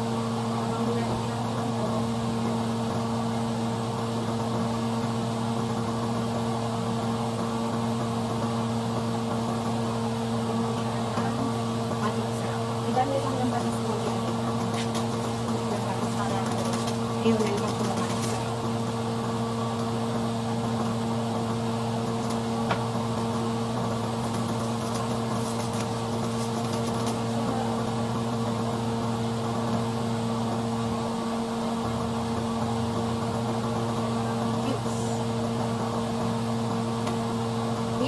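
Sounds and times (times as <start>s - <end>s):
electrical motor hum: 0.0s - 38.0s.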